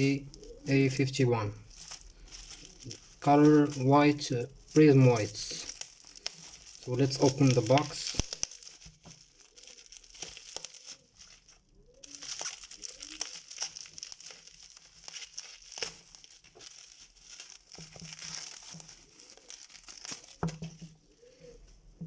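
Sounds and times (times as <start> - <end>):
plastic wrapping crinkling: 0.0 - 22.0.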